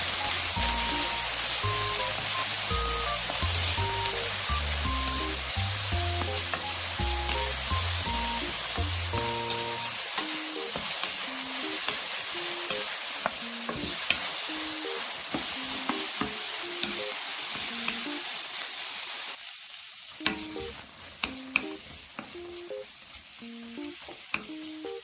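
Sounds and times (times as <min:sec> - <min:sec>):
peppers sizzling in oil: 0:00.0 - 0:25.0.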